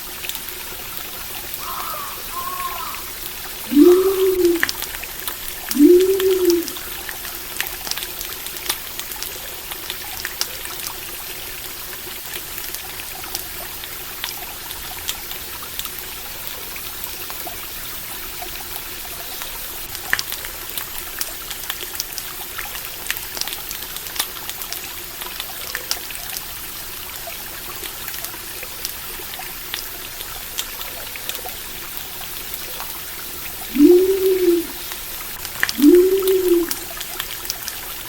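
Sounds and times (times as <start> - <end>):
stream water trickling: 0.0 - 38.0.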